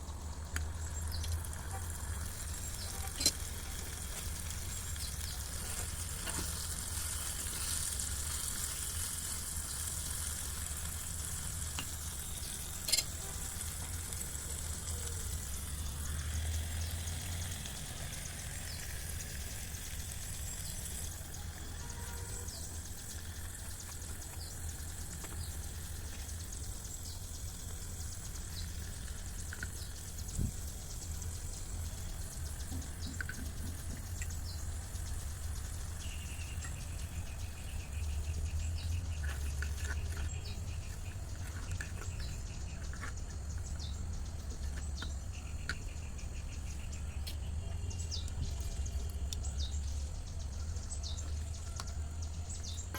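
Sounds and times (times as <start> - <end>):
food sizzling in oil: 0.4 - 44.2.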